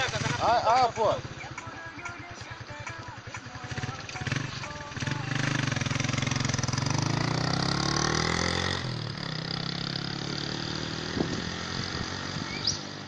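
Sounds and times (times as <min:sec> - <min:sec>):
vehicle engine revving: 0:00.0 - 0:01.5, 0:03.6 - 0:13.0.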